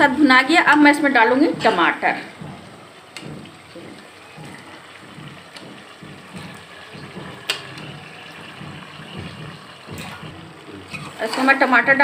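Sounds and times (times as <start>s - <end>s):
food frying in oil: 0.0s - 12.0s.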